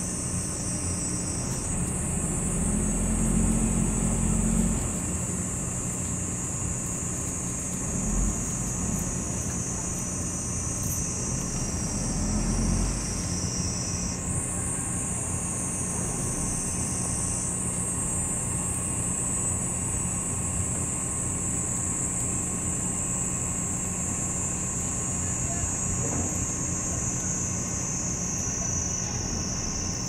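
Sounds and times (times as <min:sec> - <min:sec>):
cicadas shrilling: 0:00.0 - 0:30.0.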